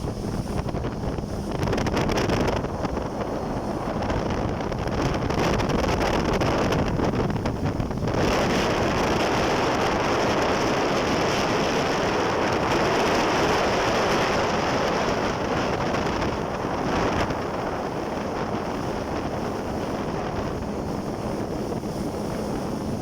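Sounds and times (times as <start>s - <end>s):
jet ski high whine: 0.0s - 23.0s
rushing water: 0.0s - 23.0s
wind on microphone: 0.0s - 23.0s.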